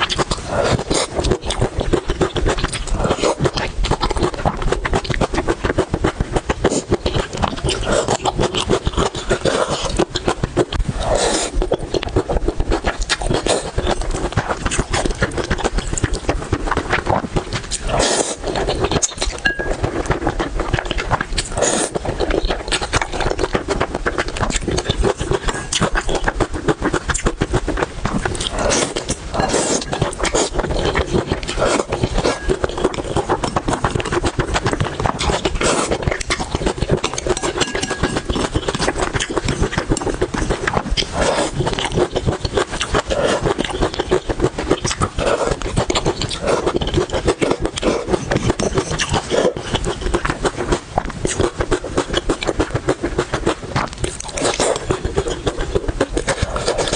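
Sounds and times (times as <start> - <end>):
food being chewed: 0.0 - 56.9.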